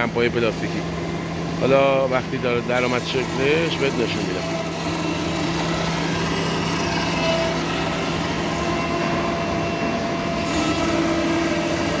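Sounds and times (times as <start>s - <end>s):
cnc router cutting: 0.0s - 12.0s.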